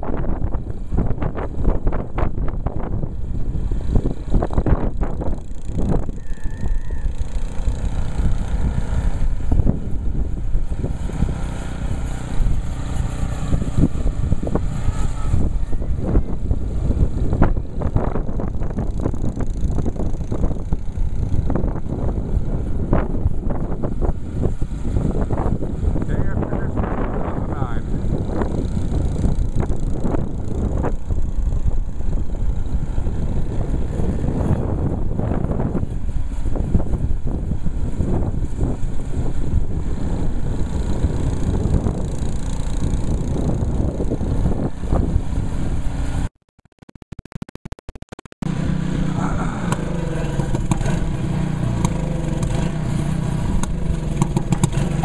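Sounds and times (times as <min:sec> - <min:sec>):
snowblower engine running: 0:00.2 - 0:46.3, 0:48.4 - 0:55.0.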